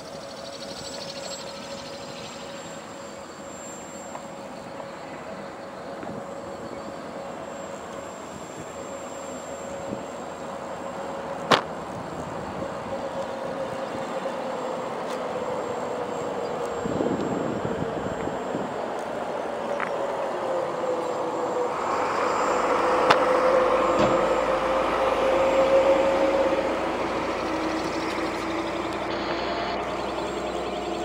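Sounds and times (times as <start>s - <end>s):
model aircraft motor drone: 0.0s - 31.0s.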